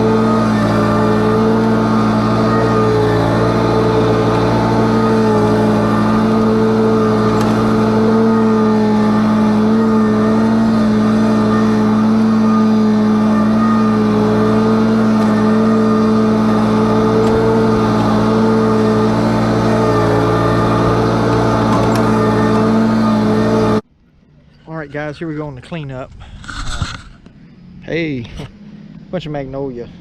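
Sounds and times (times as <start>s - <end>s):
engine running steadily: 0.0s - 24.6s.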